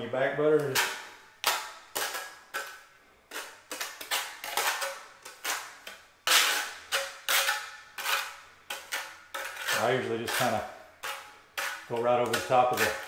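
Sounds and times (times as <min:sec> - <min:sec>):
trowel scraping mortar on tile: 0:00.6 - 0:13.0.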